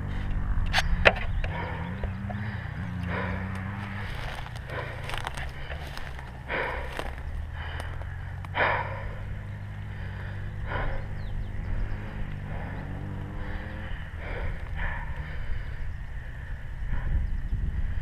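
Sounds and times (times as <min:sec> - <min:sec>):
motorcycle engine running at low revs: 0:00.0 - 0:18.0.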